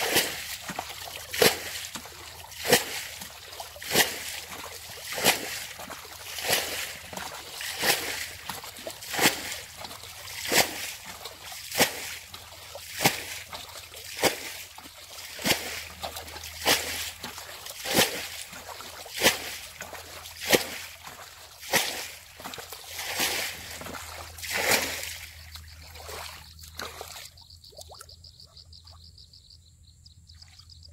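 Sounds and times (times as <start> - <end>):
water splashes from bailing: 0.0 - 28.2.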